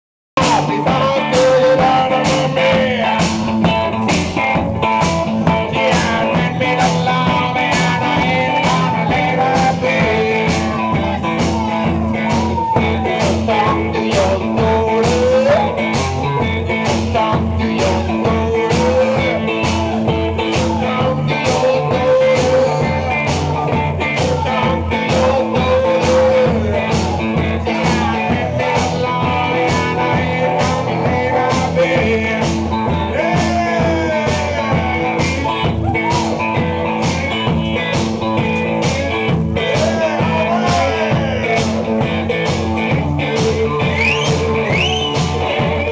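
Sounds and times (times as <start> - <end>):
bass drum beat: 0.4 - 45.9.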